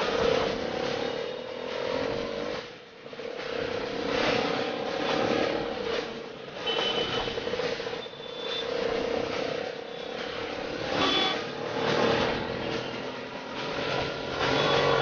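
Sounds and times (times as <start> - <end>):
auto-rickshaw engine running: 0.0 - 15.0
street traffic: 0.0 - 15.0.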